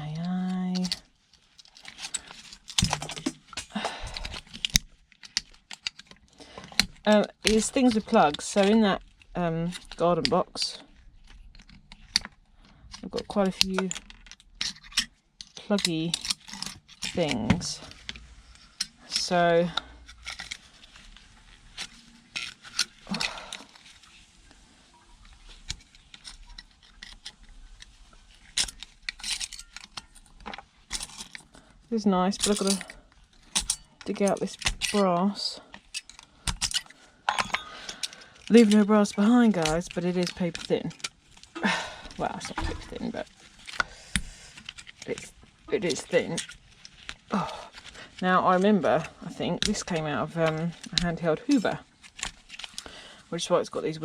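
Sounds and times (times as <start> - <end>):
plastic and metal parts clicking: 0.2 - 24.2, 25.2 - 31.6, 32.2 - 52.9.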